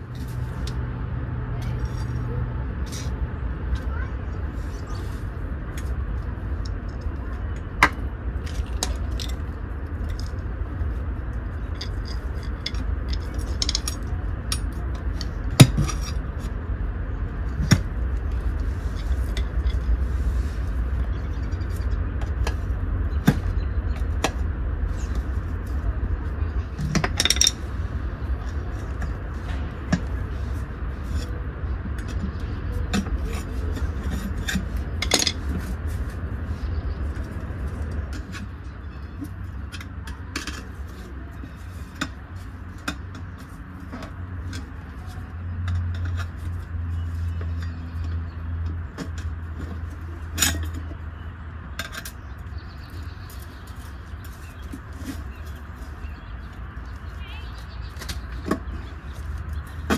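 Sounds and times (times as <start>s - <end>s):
steady low rumble: 0.0s - 59.9s
metal tools clinking on wheel rim: 1.6s - 4.0s, 4.6s - 16.6s, 17.4s - 25.8s, 26.6s - 59.9s.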